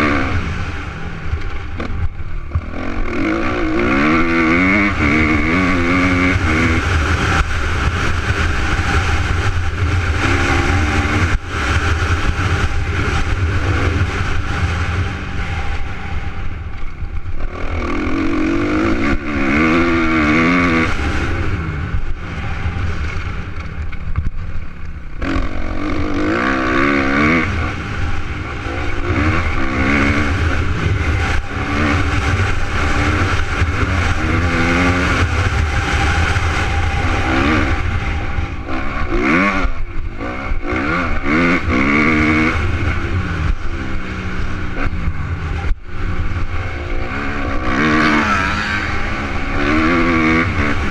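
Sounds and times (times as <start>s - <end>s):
motocross bike engine revving: 0.0s - 50.9s.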